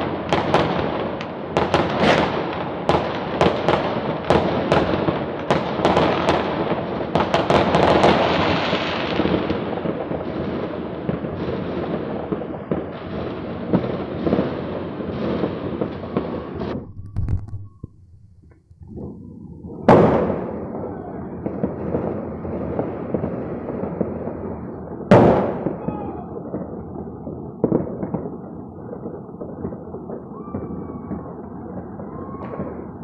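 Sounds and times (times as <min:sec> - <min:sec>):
crackling rumble of fireworks: 0:00.0 - 0:33.0
sharp firecracker bangs: 0:00.0 - 0:33.0.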